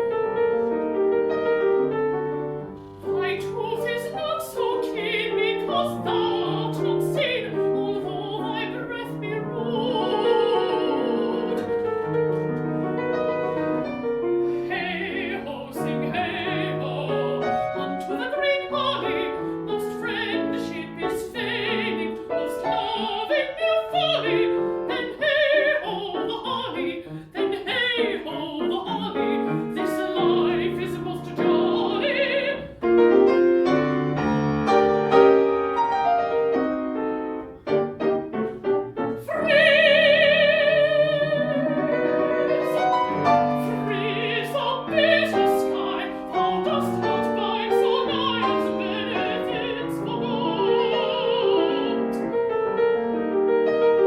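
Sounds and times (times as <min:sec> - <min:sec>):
mezzo-soprano singing: 0:00.0 - 0:54.0
piano accompaniment: 0:00.0 - 0:54.0.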